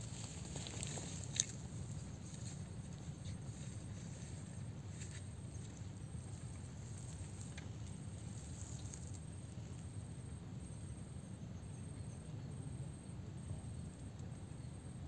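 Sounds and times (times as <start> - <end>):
high insect chirp: 0.0 - 15.0.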